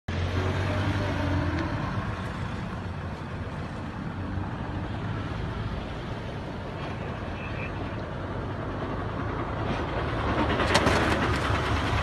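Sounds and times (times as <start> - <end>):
traffic noise: 0.1 - 12.0
vehicle engine humming: 0.1 - 12.0.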